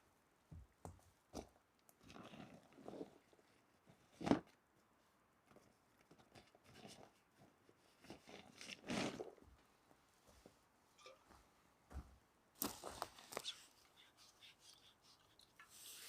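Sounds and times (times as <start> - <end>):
rustling and handling noises: 0.4 - 16.0.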